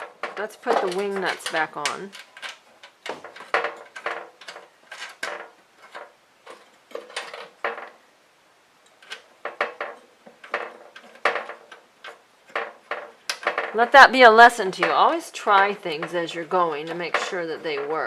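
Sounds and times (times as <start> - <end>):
metal parts clinking and scraping: 0.0 - 8.0, 8.9 - 18.0.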